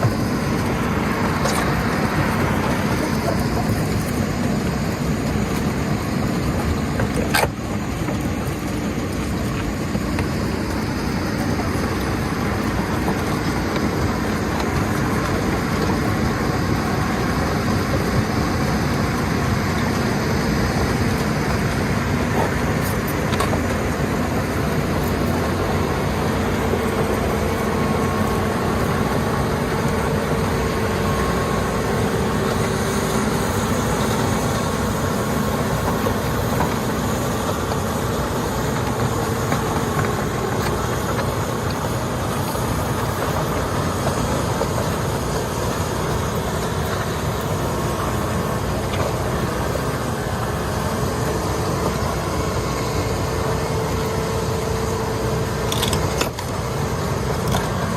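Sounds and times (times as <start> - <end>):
excavator diesel engine running: 0.0 - 57.9
faint steady whine: 0.0 - 57.9.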